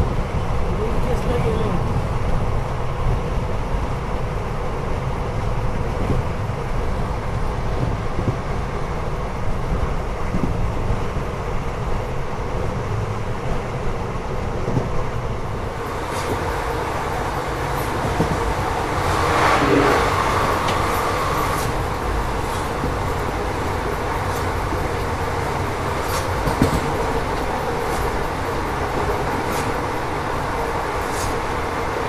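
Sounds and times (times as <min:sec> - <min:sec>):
rumble of wheels on rail: 0:00.0 - 0:32.0.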